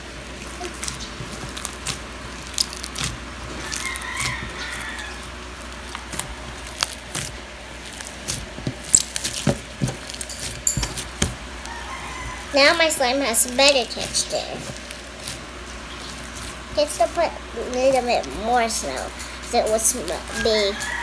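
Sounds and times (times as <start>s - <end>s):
slime squishing: 0.0s - 21.0s.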